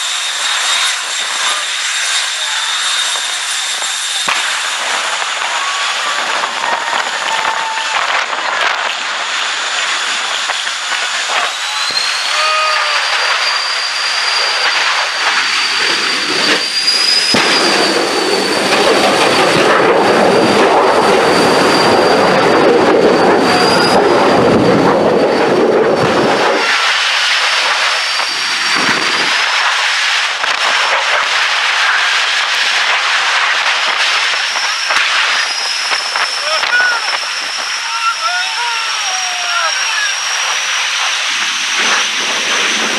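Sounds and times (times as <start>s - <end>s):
afterburner rushing roar: 0.0s - 42.9s
turbine engines high whine: 0.0s - 42.9s.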